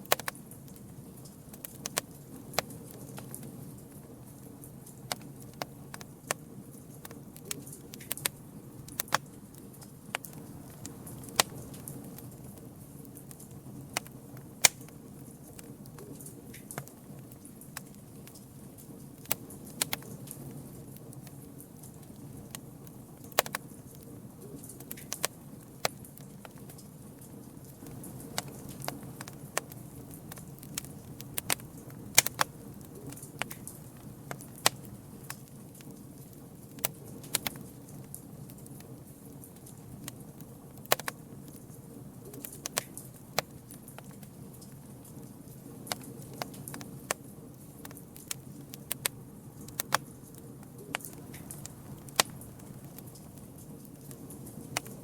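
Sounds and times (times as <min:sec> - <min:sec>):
campfire flame rumbling: 0:00.0 - 0:55.0
fire crackling and popping: 0:00.0 - 0:55.0.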